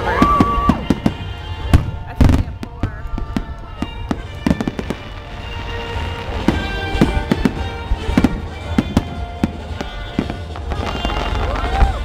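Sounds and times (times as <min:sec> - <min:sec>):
fireworks bursting and crackling: 0:00.0 - 0:12.0
music with sustained tones: 0:00.0 - 0:12.0.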